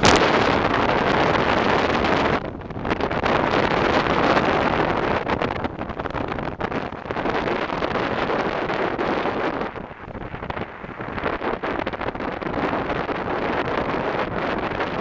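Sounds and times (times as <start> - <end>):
outboard motor roar: 0.0 - 15.0
wind buffeting microphone: 0.0 - 15.0.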